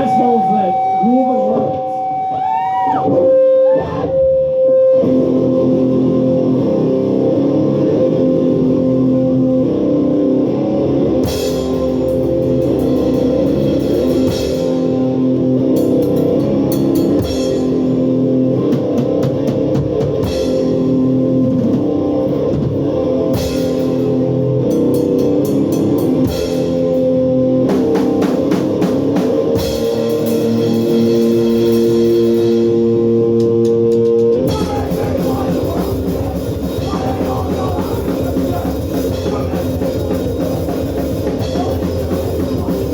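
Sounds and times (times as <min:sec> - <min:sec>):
punk band playing live: 0:00.0 - 0:42.9.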